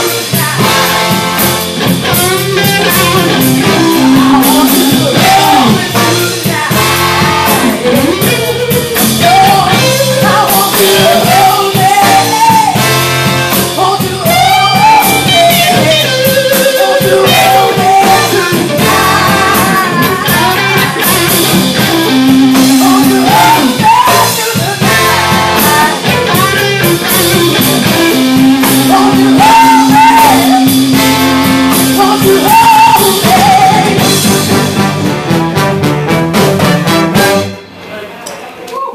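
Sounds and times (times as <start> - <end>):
woman singing lead: 0.0 - 34.4
drum kit: 0.0 - 37.9
electric guitar: 0.0 - 37.9
horn section: 0.0 - 38.2.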